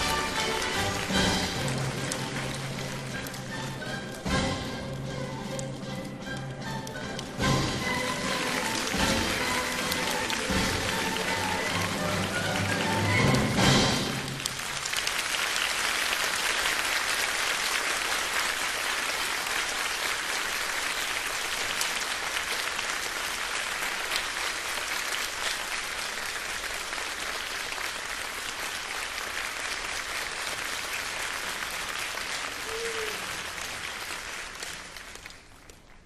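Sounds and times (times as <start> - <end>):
audience applauding: 0.0 - 36.0.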